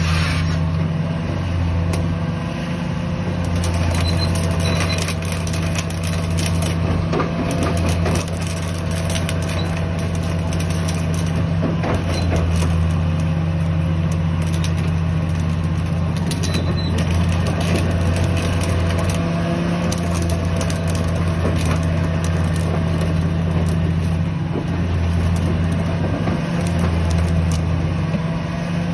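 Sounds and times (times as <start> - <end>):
excavator diesel engine droning: 0.0 - 28.9
clanks and crunching knocks: 3.5 - 13.4, 14.0 - 28.3.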